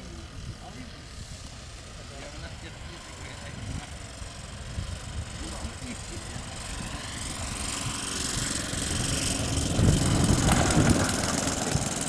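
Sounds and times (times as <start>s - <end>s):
model airplane engine running: 0.0s - 12.0s.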